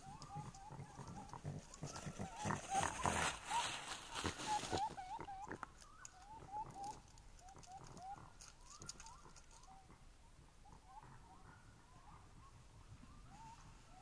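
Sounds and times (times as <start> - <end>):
rising chirp-like animal calls: 0.0 - 9.9, 10.6 - 14.0.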